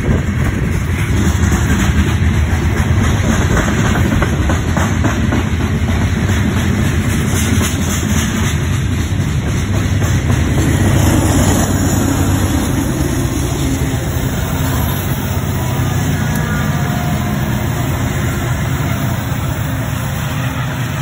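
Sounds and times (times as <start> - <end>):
locomotive engine drone: 0.0 - 21.0.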